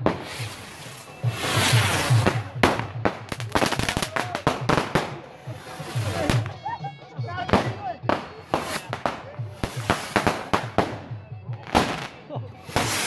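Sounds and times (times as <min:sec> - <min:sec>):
fireworks crackling fizz: 0:00.0 - 0:06.5, 0:07.6 - 0:11.0, 0:11.7 - 0:13.0
fireworks cracking and banging: 0:00.0 - 0:06.6, 0:07.4 - 0:13.0.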